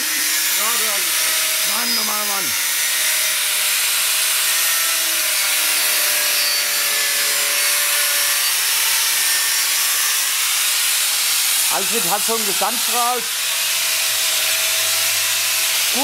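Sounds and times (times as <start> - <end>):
angle grinder grinding steel: 0.0 - 16.0.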